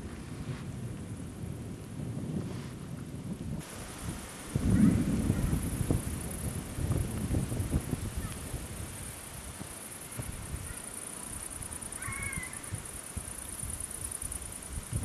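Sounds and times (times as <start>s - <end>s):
steady high hiss: 0.0s - 15.0s
wind buffeting microphone: 0.0s - 15.0s.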